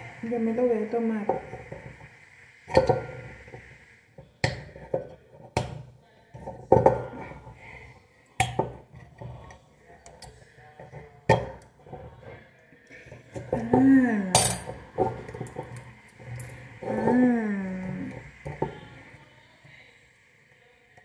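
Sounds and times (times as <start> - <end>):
quiet scraping: 0.0 - 21.0.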